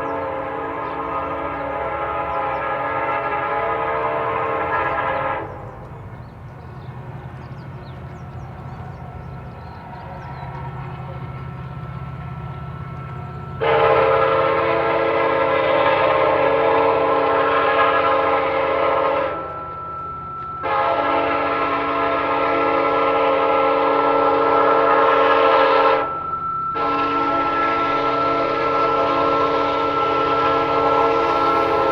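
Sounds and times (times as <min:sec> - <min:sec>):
train horn blasts: 0:00.0 - 0:05.9, 0:09.2 - 0:31.9
train rumbling: 0:00.0 - 0:31.9.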